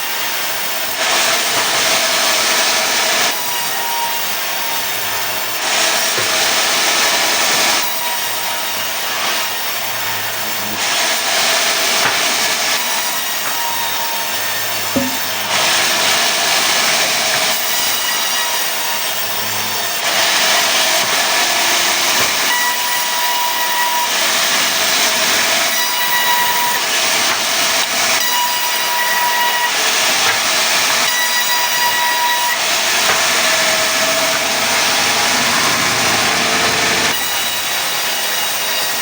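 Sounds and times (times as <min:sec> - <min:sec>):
saw cutting log: 0:00.0 - 0:39.0
saw whine: 0:00.0 - 0:39.0.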